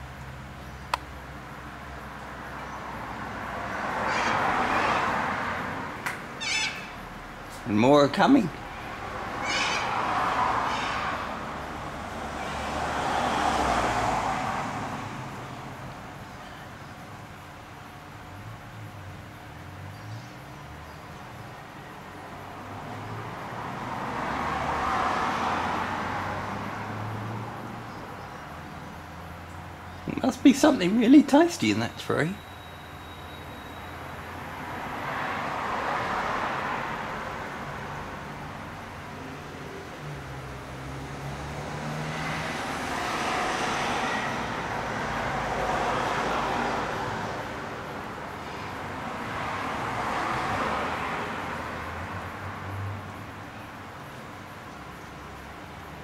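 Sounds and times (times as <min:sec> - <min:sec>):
road vehicle passing by: 0:00.0 - 0:56.0.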